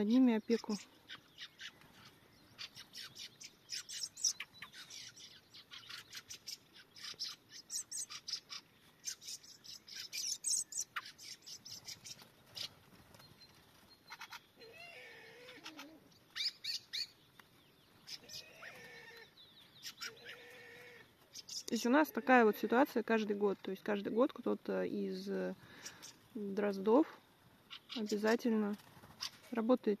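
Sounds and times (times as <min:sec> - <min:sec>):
thrushes chirping: 0:00.0 - 0:30.0.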